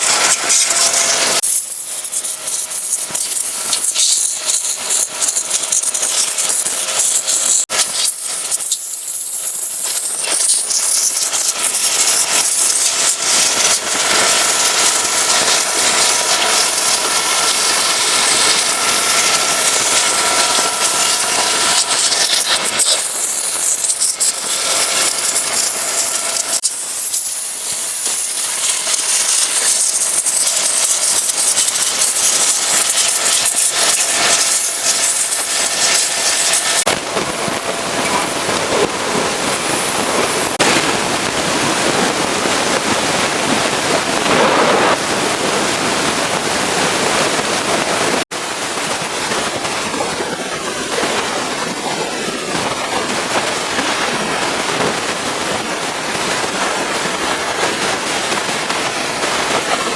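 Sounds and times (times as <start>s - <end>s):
machine whine: 0.0s - 59.9s
pressure washer spraying water: 0.0s - 59.9s.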